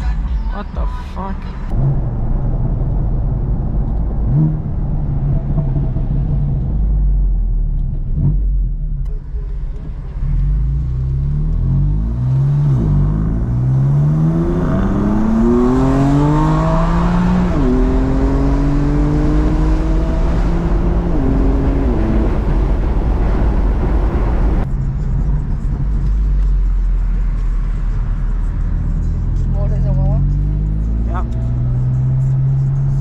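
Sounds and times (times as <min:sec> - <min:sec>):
car engine accelerating through gears: 0:01.7 - 0:33.0.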